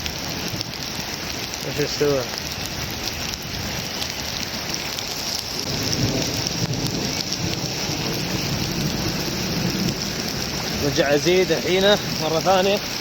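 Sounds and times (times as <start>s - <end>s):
heavy rain hissing: 0.0s - 13.0s
thunder rumbling: 0.0s - 13.0s.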